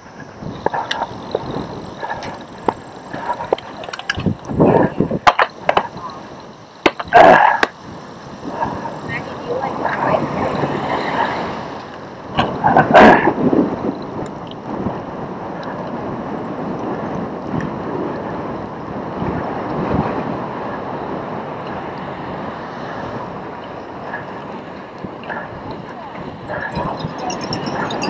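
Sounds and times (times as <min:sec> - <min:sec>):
bike frame and tyres rattling: 0:00.0 - 0:28.0
wind noise: 0:00.0 - 0:28.0.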